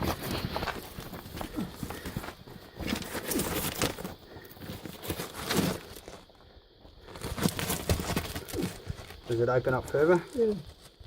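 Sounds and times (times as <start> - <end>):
footsteps on loose rock and gravel: 0.0 - 11.0.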